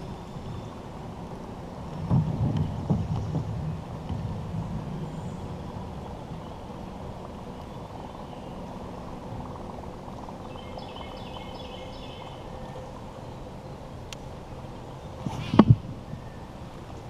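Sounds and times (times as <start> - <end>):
river rumble: 0.0 - 17.0.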